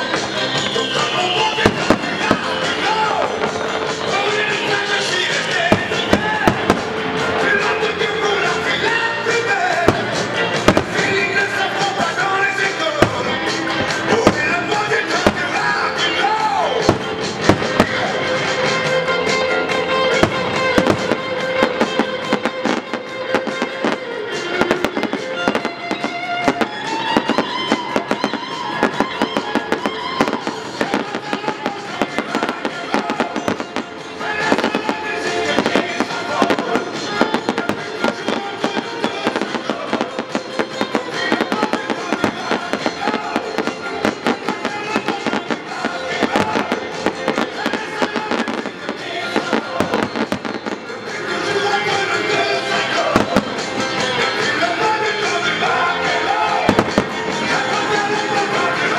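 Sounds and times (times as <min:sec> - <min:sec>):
fireworks bursting and crackling: 0:00.0 - 0:58.9
music playing: 0:00.0 - 0:58.9.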